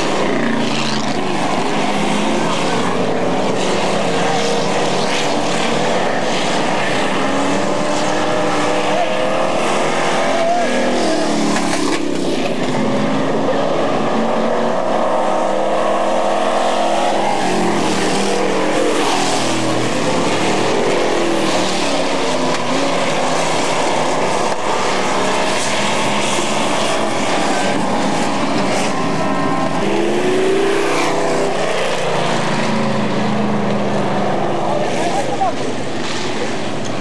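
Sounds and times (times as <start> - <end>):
race truck engines: 0.0 - 37.0.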